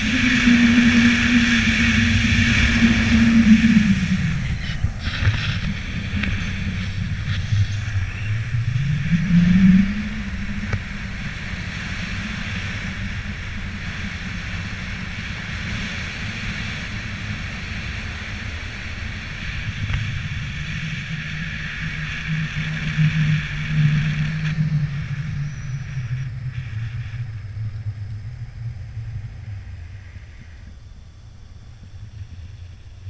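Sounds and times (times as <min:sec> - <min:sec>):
wind on microphone: 0:00.0 - 0:33.0.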